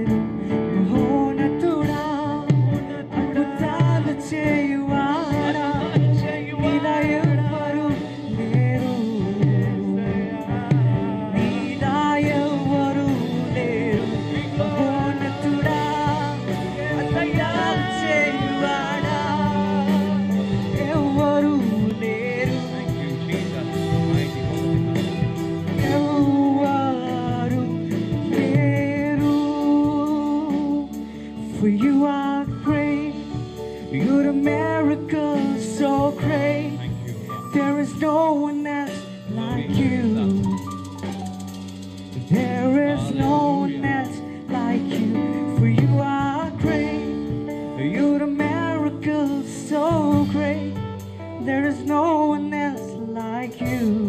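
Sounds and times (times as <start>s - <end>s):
men singing into microphones: 0.0s - 41.2s, 42.1s - 54.0s
band with electric guitar: 0.0s - 54.0s.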